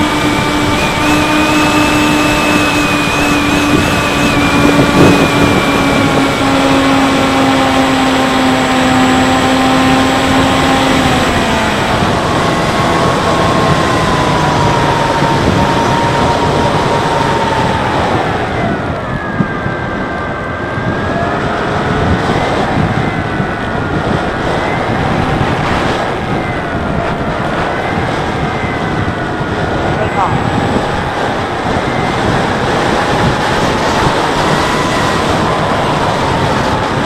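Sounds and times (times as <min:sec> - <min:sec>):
electric motor whining: 0:00.0 - 0:20.0, 0:20.8 - 0:37.0
wind rushing: 0:00.0 - 0:37.0.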